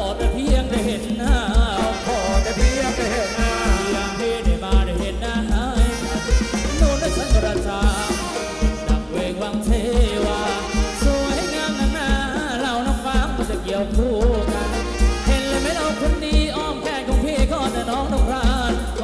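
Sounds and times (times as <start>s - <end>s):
live band dance song: 0.0s - 19.0s
strong bass beat: 0.0s - 19.0s.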